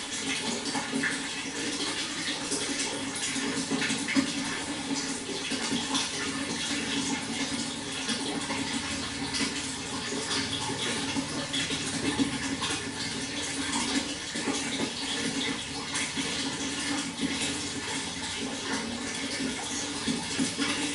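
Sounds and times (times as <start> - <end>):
running water rushing: 0.0 - 20.9
small water splashes: 0.0 - 20.9.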